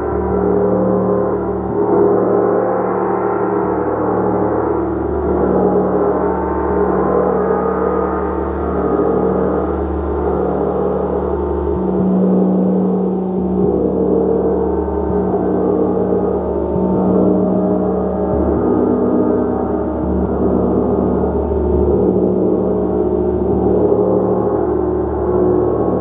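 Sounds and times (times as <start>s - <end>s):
gong sound bath: 0.0s - 26.0s.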